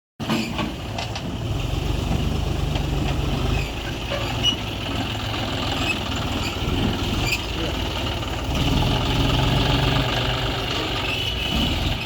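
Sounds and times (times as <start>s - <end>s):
diesel engine throbbing: 0.6s - 12.0s.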